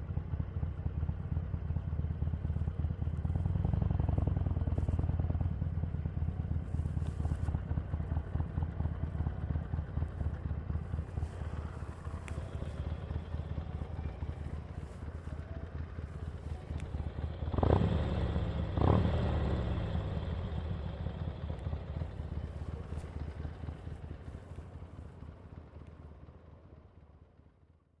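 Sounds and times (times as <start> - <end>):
motorcycle engine running: 0.0 - 27.5.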